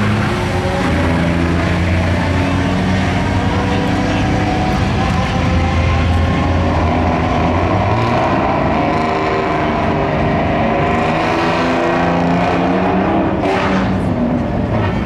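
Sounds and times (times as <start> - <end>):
diesel truck engines at full throttle: 0.0 - 15.0.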